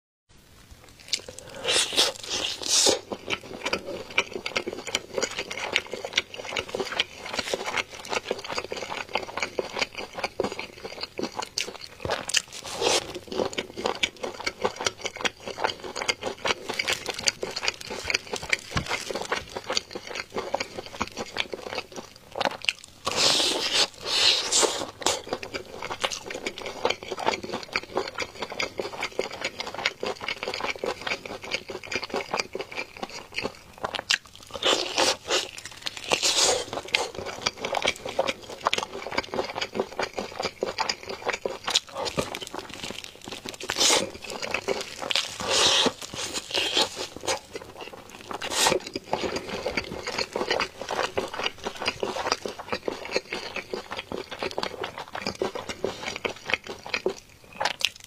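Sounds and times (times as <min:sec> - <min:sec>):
chewing crispy fried chicken: 0:00.5 - 0:58.0.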